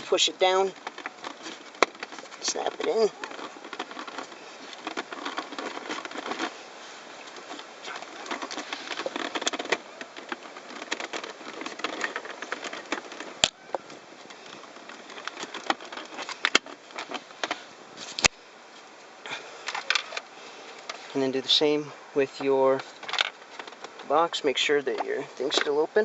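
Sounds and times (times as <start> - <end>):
plastic trim clicks and rustles: 0.0 - 6.6, 7.2 - 18.4, 22.4 - 26.0.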